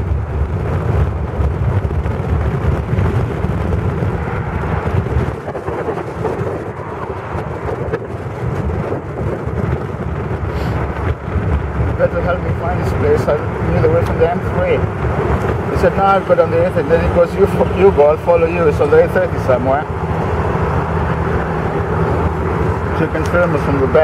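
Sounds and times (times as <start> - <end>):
car engine rumbling: 0.0 - 24.0
wind buffeting: 0.0 - 24.0.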